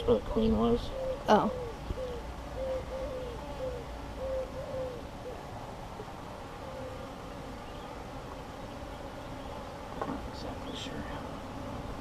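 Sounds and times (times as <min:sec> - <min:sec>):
honeybees humming: 0:00.0 - 0:12.0
queen bee piping: 0:00.0 - 0:12.0.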